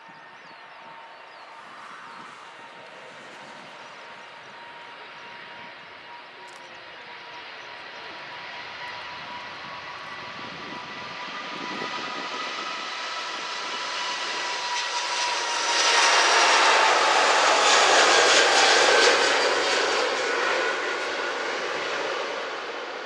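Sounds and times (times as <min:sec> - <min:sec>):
jet engines roaring at take-off: 0:00.0 - 0:23.0.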